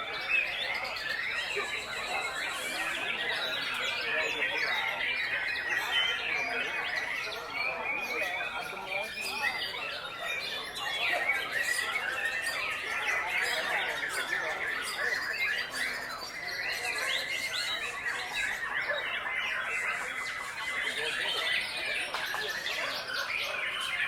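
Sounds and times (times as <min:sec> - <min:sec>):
birds singing whistles and chirps: 0:00.0 - 0:24.0.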